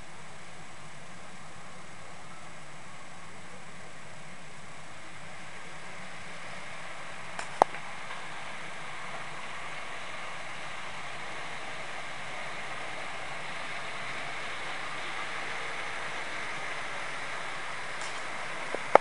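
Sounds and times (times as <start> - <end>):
model trains rolling on track: 0.0 - 19.0.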